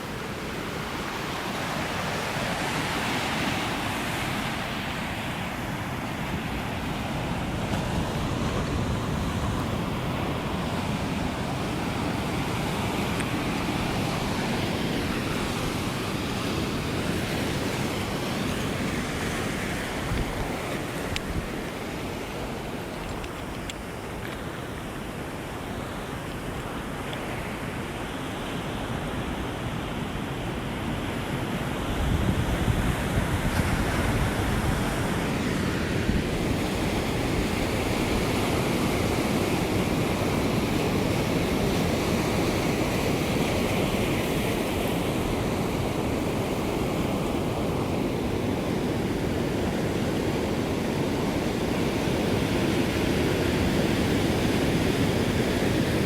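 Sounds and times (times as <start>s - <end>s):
waves breaking on shore: 0.0s - 56.0s.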